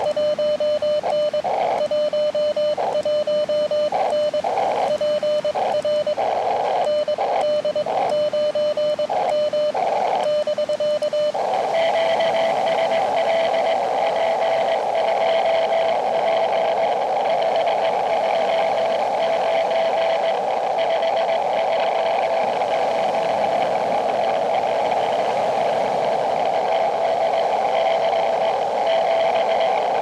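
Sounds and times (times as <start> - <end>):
morse code tone: 0.0 - 30.0
radio band hiss: 0.0 - 30.0.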